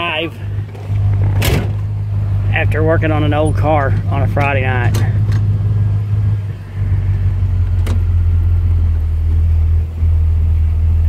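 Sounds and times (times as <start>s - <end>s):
car engine and exhaust droning: 0.0s - 11.0s.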